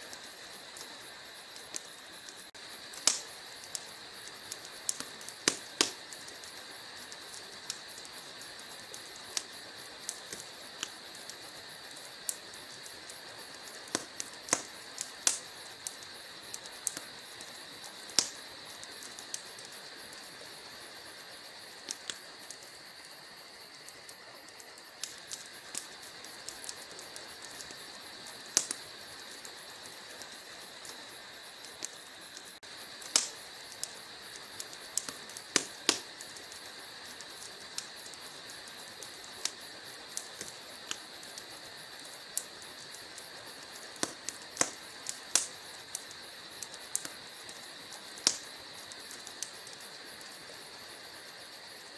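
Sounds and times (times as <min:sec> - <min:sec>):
logs crackling in a fireplace: 0:00.0 - 0:51.9.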